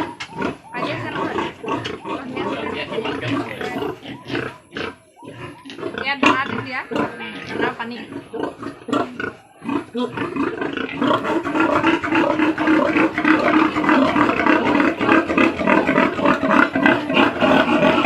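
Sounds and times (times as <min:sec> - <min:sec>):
pigs squealing: 0:00.0 - 0:18.0.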